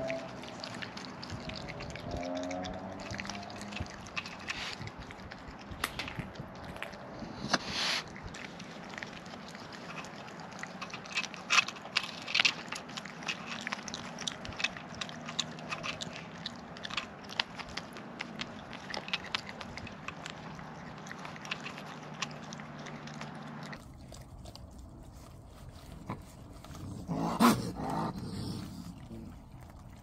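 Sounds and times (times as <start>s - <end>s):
animal chewing crunchy food: 0.0s - 30.0s.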